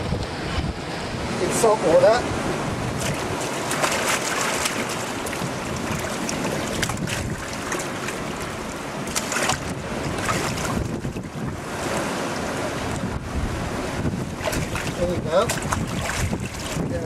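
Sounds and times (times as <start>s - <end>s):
surf: 0.0s - 17.0s
wind noise on microphone: 0.0s - 17.0s
water sloshing and splashing: 2.8s - 17.0s.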